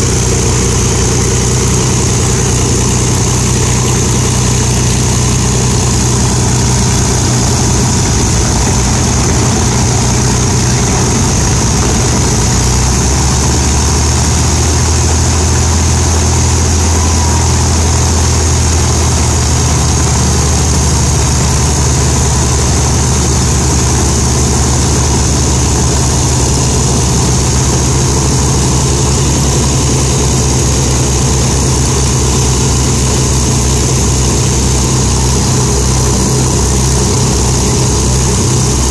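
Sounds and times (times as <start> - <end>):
piston aircraft engines droning: 0.0 - 38.9.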